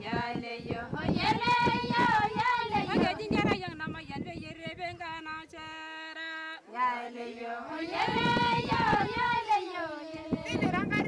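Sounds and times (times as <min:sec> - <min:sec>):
women singing: 0:00.0 - 0:11.0.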